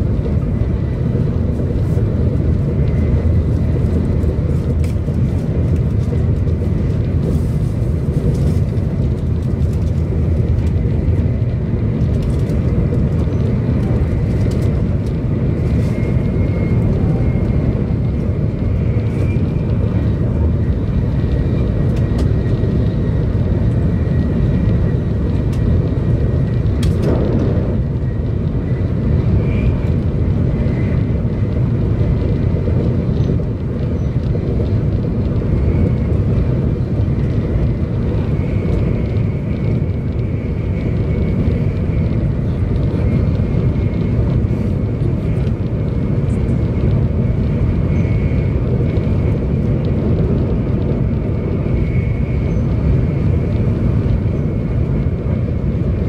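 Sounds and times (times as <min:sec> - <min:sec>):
low rumble of train wheels: 0:00.0 - 0:56.0.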